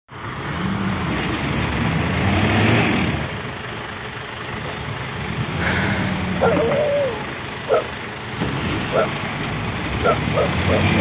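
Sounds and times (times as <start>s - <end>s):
truck diesel engine under load: 0.1s - 11.0s.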